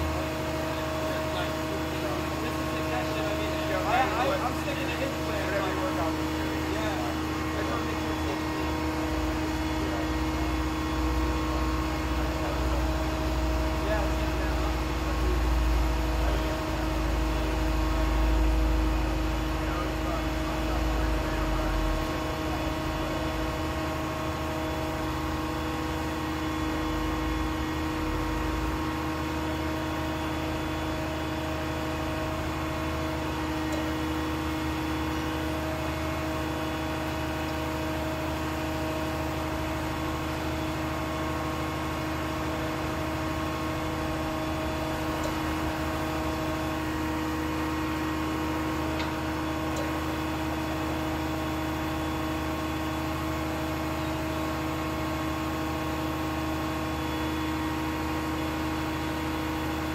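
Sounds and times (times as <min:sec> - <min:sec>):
truck engine and hydraulics droning: 0:00.0 - 0:59.9.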